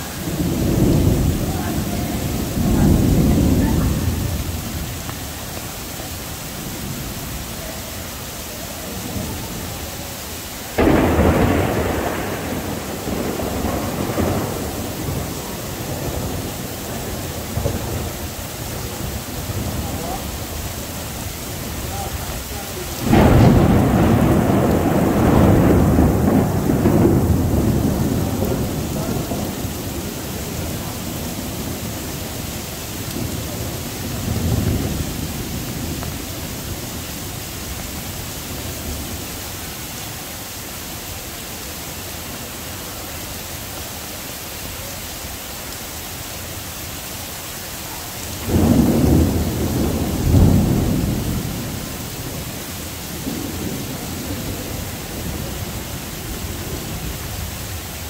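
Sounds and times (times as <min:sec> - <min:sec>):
thunder rumbling: 0:00.0 - 0:43.2, 0:47.5 - 0:58.0
heavy rain hissing: 0:00.0 - 0:58.0.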